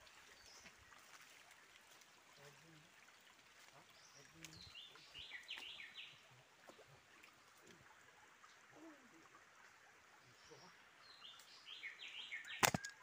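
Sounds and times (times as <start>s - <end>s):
faint forest ambience: 0.0s - 13.0s.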